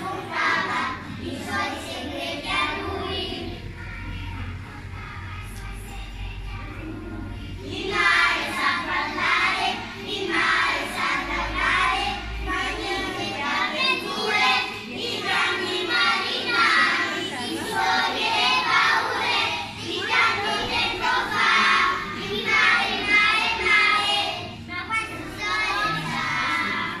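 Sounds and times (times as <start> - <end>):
children singing: 0.0 - 27.0.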